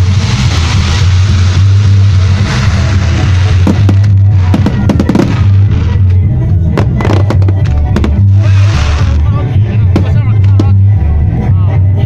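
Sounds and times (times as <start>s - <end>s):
fireworks bursting: 0.0s - 11.0s
loud music: 0.0s - 12.0s.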